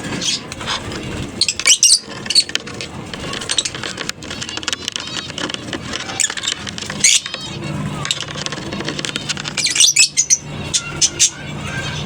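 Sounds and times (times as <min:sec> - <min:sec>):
birds chattering and chirping: 0:00.0 - 0:12.0.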